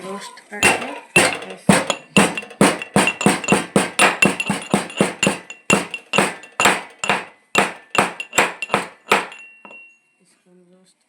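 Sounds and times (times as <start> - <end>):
pestle pounding in mortar: 0.6 - 9.8.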